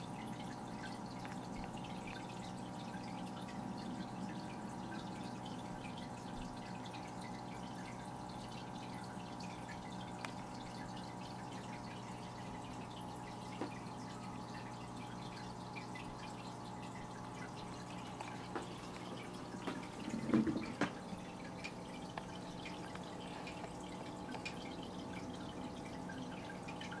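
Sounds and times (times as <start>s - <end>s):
low equipment hum: 0.0s - 27.0s
water dripping and trickling: 0.0s - 27.0s.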